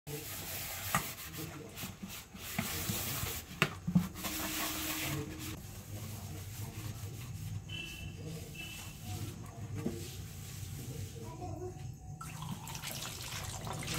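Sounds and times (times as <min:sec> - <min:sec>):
scrubber rubbing a plate: 0:00.1 - 0:11.4.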